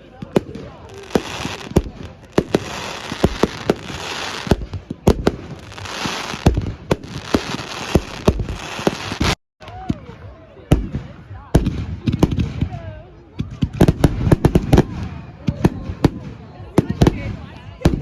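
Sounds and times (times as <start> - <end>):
fireworks banging: 0.0 - 10.1, 10.7 - 18.0
fireworks crackling and fizzing: 0.0 - 18.0.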